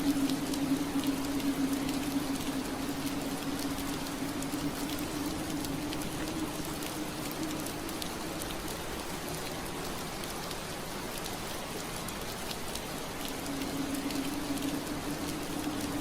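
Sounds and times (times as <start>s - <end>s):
low steady hum: 0.0s - 16.0s
rain on window glass: 0.0s - 16.0s.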